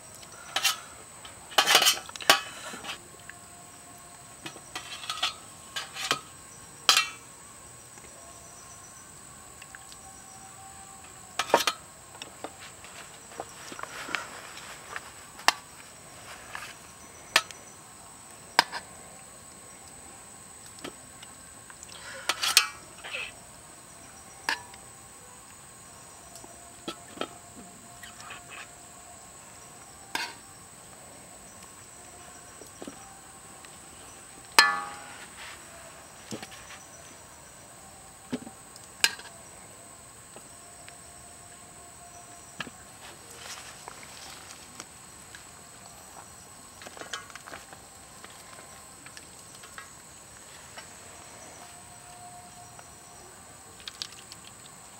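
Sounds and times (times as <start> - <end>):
high insect drone: 0.0 - 54.9.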